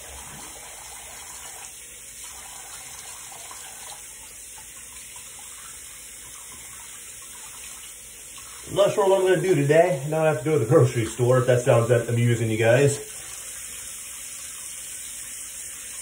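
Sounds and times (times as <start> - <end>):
face being rinsed with water: 0.0 - 16.0
sink tap running: 0.0 - 16.0.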